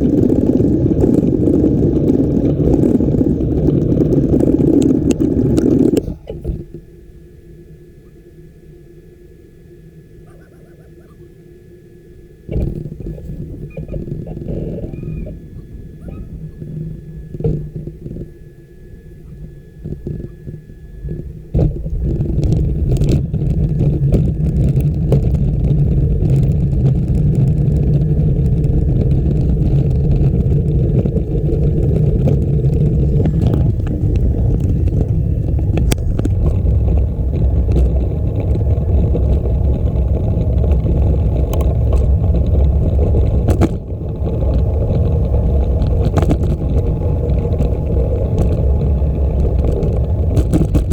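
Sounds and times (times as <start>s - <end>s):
bicycle tyres on trail: 0.0s - 6.9s, 12.5s - 50.9s
faint clicks and knocks from bumps: 0.0s - 6.9s, 12.5s - 50.9s
wind on microphone: 0.0s - 6.9s, 12.5s - 50.9s.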